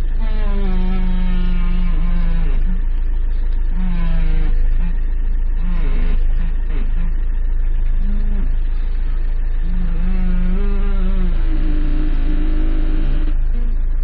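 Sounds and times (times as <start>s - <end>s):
car engine idling: 0.0s - 14.0s
steering creaking groan: 0.0s - 14.0s.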